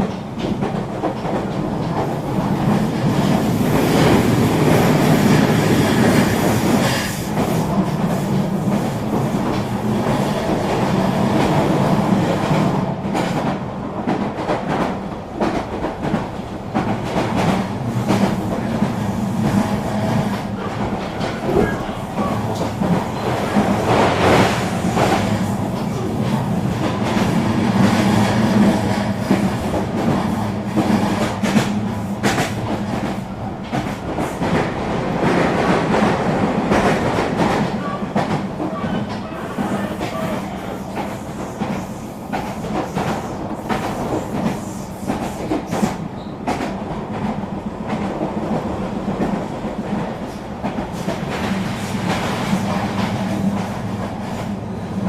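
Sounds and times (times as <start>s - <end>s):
train rumbling along track: 0.0s - 55.0s.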